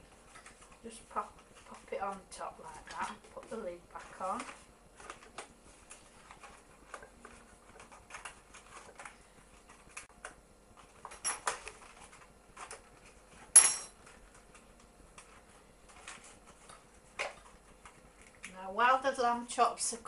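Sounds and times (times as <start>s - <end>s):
foil crinkling and clicking: 0.2s - 18.6s.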